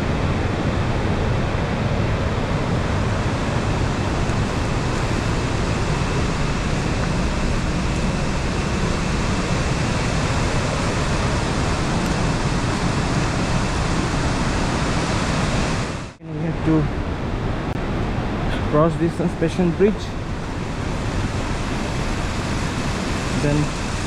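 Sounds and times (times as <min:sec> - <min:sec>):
stream rushing: 0:00.0 - 0:24.0.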